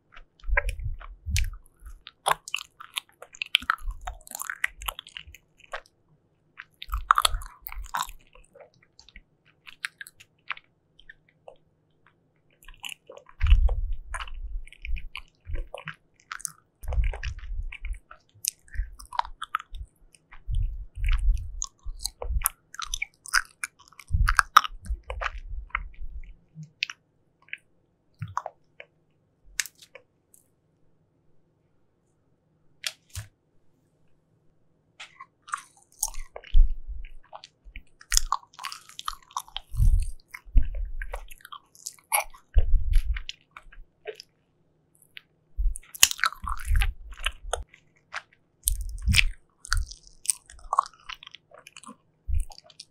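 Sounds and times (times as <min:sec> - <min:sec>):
wet chewing: 0:00.0 - 0:28.9, 0:35.0 - 0:44.4, 0:45.0 - 0:52.9.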